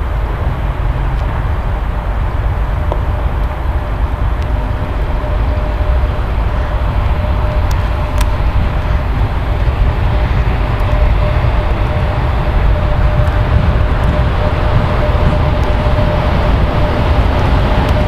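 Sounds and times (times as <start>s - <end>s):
faint steady hum: 0.0s - 18.0s
train wheels rumbling: 0.0s - 18.0s.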